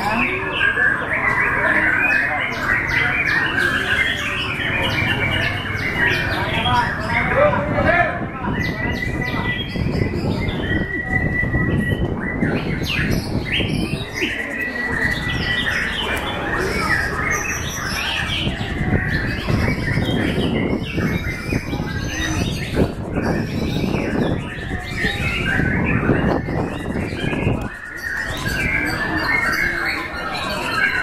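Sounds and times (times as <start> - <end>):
songbirds whistling and trilling: 0.0 - 31.0.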